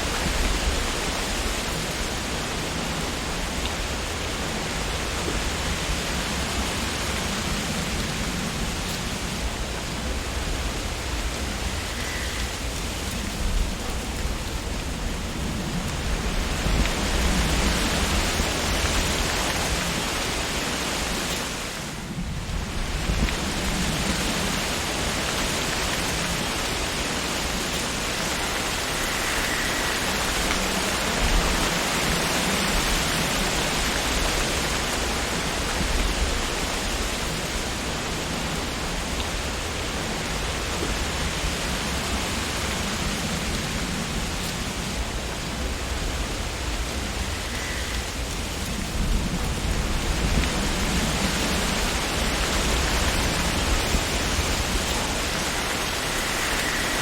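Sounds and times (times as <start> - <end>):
wind rustling tree leaves: 0.0 - 57.0.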